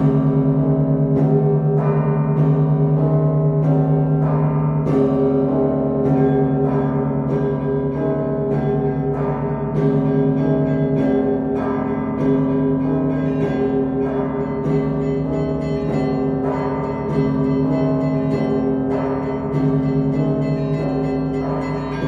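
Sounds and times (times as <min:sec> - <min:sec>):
deep church bells: 0:00.0 - 0:22.0
small church bells ringing fast: 0:00.0 - 0:22.0.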